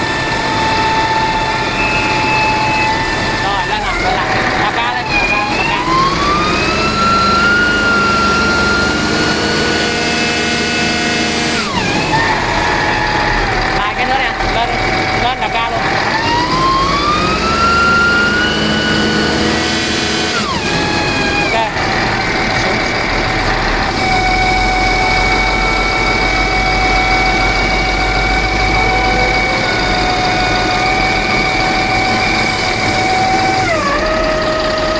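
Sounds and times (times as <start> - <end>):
deep hum: 0.0 - 34.9
hydraulic pump whining: 0.0 - 34.9
low machine rumble: 0.0 - 34.9.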